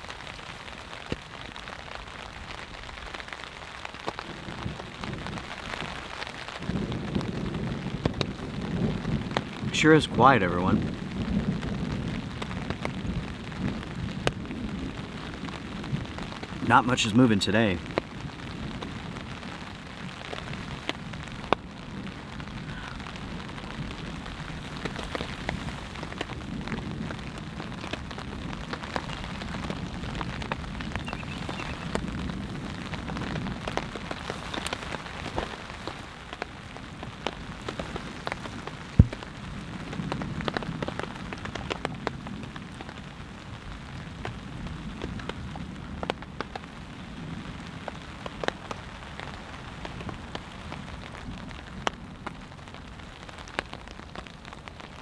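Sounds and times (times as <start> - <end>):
light rain on a tarp: 0.0 - 55.0.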